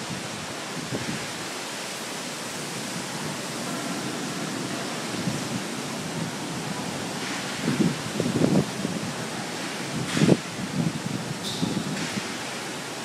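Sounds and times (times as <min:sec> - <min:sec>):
heavy rain on concrete: 0:00.0 - 0:13.0
wind: 0:00.0 - 0:13.0.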